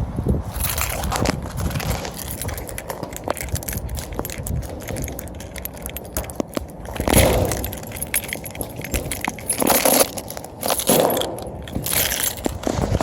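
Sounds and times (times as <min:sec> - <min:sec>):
wind buffeting microphone: 0:00.0 - 0:13.0
small crackles and clicks: 0:00.6 - 0:13.0.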